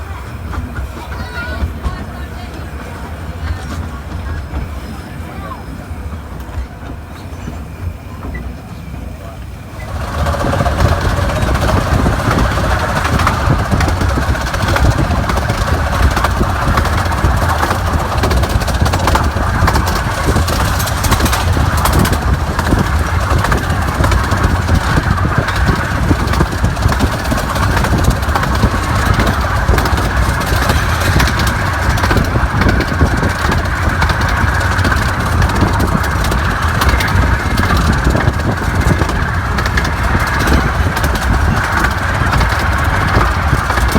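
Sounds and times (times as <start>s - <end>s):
engine running: 0.0s - 43.9s.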